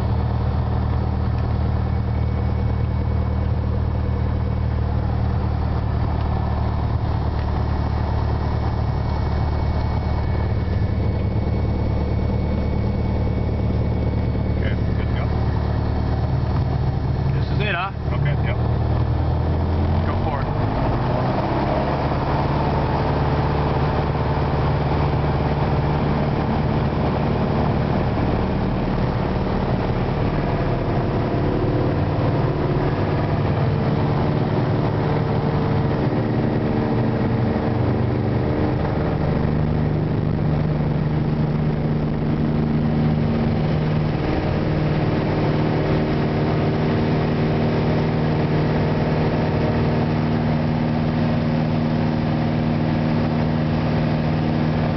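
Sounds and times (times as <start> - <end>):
light aircraft engine droning: 0.0 - 54.9.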